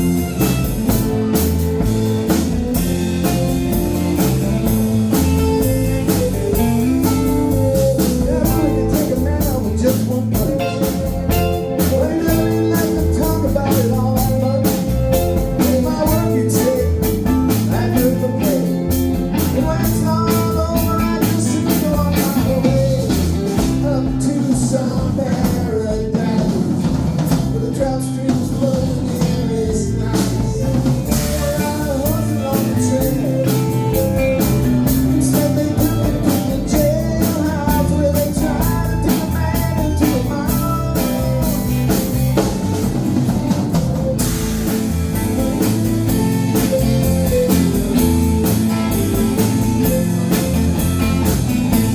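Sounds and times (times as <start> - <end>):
drum kit: 0.0 - 51.9
guitar: 0.0 - 51.9
person singing: 4.2 - 42.4, 45.6 - 51.9.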